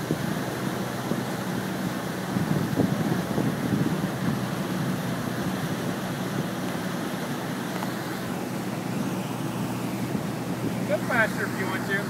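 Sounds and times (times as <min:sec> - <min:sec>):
motorboat engine droning: 0:00.0 - 0:12.0
water rushing: 0:00.0 - 0:12.0
wind: 0:00.0 - 0:12.0.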